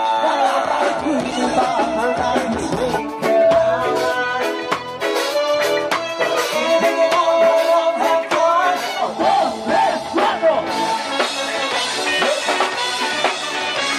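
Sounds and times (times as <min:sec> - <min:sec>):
live band playing: 0:00.0 - 0:13.9
regular drum hits: 0:00.5 - 0:13.9.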